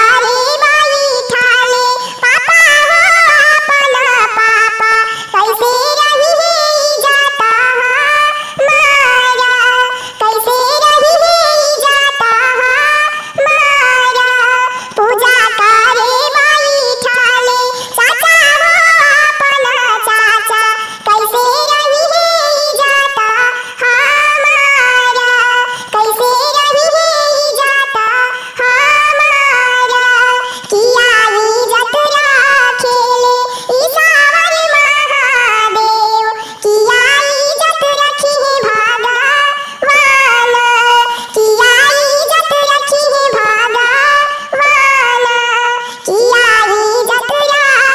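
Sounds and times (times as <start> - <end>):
high pitch-shifted voice singing: 0.0 - 47.9.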